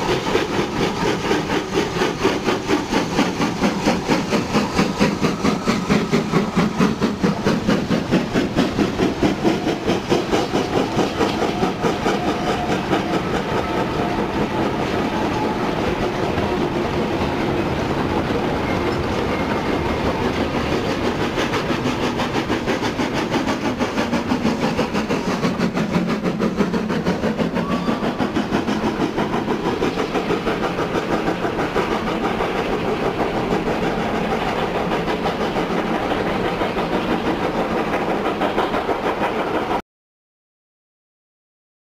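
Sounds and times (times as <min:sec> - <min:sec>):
steam train running: 0:00.0 - 0:39.8.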